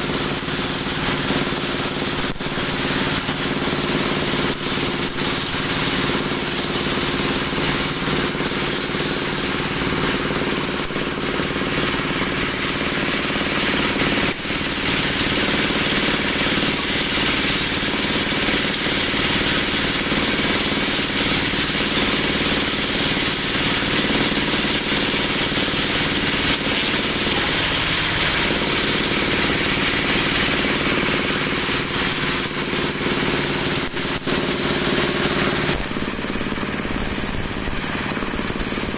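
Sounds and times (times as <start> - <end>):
machine hum with hiss: 0.0 - 38.9.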